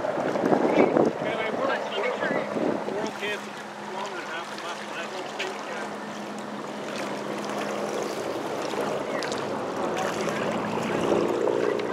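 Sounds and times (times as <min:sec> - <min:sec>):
choppy lake water at shore: 0:00.0 - 0:11.9.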